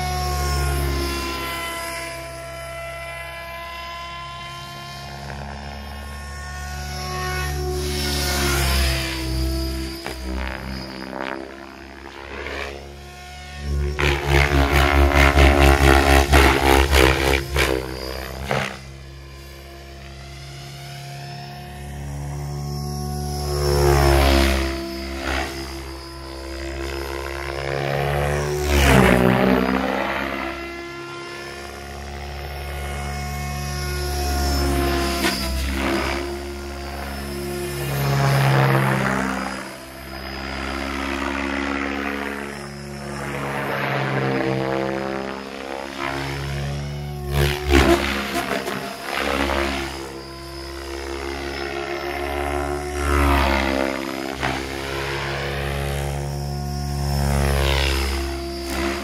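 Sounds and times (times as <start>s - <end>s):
model helicopter rotor whine: 0.0s - 59.0s.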